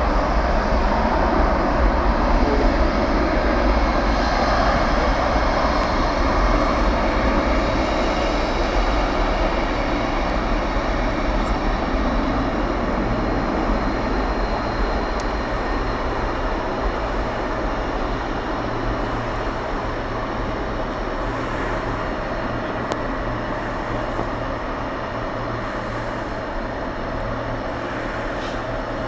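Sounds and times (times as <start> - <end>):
distant jet engines rumbling: 0.0 - 29.0.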